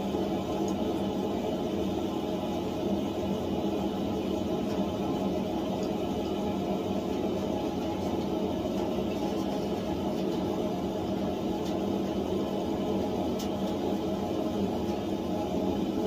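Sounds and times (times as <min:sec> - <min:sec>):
gas forge burner roaring: 0:00.0 - 0:16.0.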